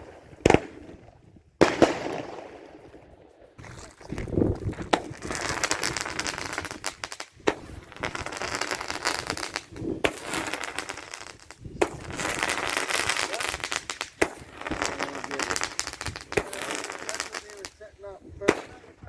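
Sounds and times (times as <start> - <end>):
firework crackling: 0.0 - 3.0, 3.6 - 19.0
firework bangs: 0.0 - 19.0.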